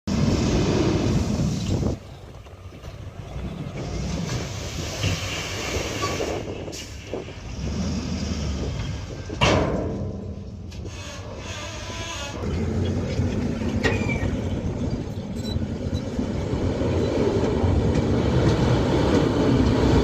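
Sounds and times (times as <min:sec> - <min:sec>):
diesel machinery rumbling: 0:00.0 - 0:20.0.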